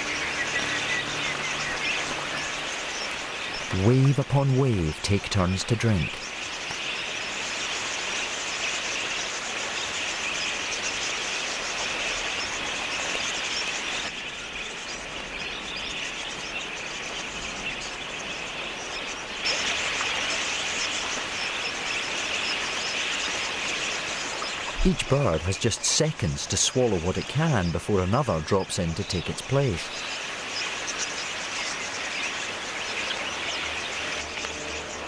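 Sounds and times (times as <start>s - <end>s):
flock of parakeets chattering: 0.0s - 14.2s, 18.9s - 35.0s.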